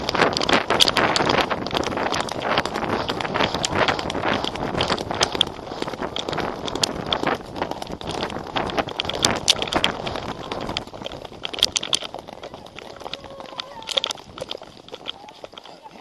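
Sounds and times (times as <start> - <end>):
camera rustling and knocking: 0.0 - 15.7
horse hoofbeats: 0.0 - 16.0.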